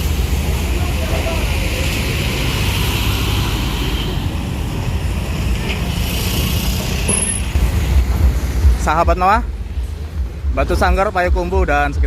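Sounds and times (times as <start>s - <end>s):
bus diesel engines rumbling: 0.0s - 12.0s.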